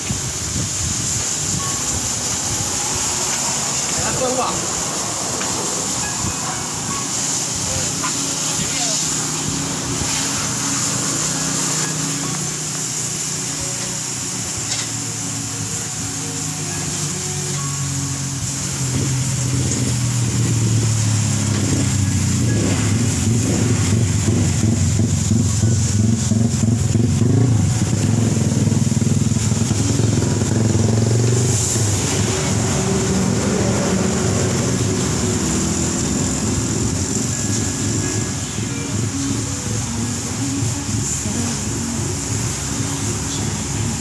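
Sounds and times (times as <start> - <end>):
pressure washer motor hum: 0.0 - 44.0
water jet spraying: 0.0 - 44.0.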